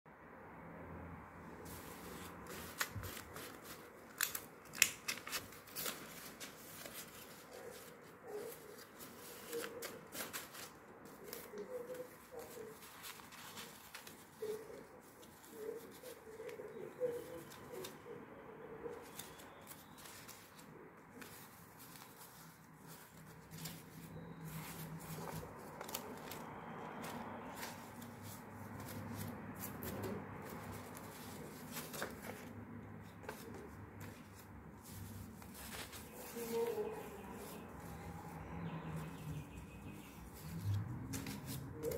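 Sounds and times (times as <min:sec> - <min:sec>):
paper banknotes rustling and snapping: 0:01.6 - 0:18.2, 0:18.8 - 0:38.2, 0:38.9 - 0:41.9.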